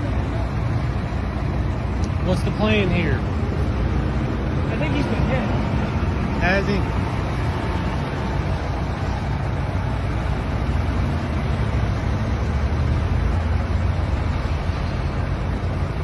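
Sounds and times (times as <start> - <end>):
diesel truck idling: 0.0 - 16.0
traffic noise: 0.0 - 16.0.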